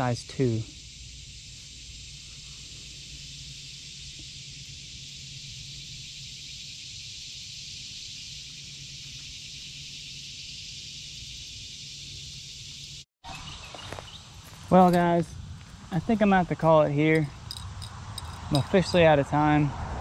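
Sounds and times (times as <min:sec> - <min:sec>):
insects chorus high-pitched hiss: 0:00.0 - 0:20.0.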